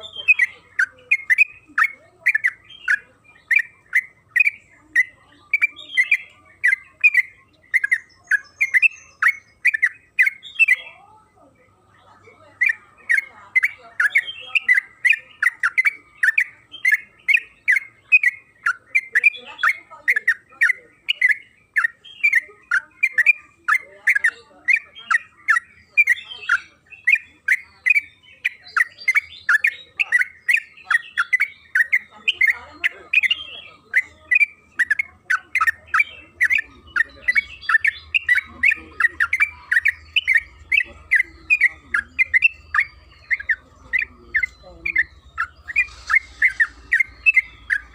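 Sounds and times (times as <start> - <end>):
bulbul chattering call: 0.0 - 47.9.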